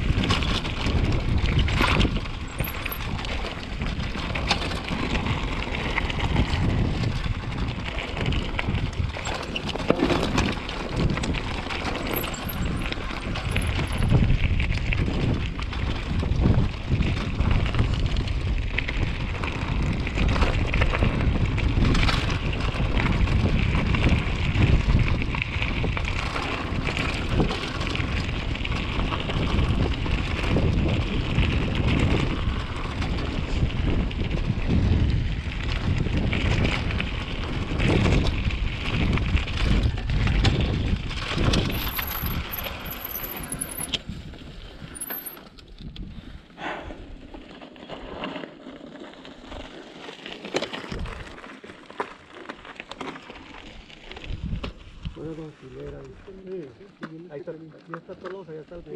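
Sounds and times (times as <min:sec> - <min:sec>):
wind buffeting microphone: 0:00.0 - 0:47.4, 0:50.9 - 0:51.4, 0:54.1 - 0:56.7
mountain bike rolling on dirt: 0:00.0 - 0:58.9.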